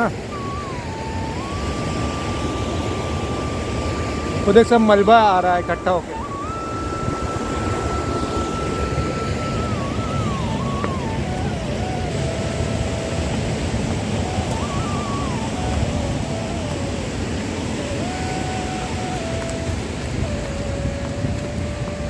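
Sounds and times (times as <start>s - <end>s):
faint single-note tune: 0.0s - 22.0s
river rapids roaring: 0.0s - 22.0s.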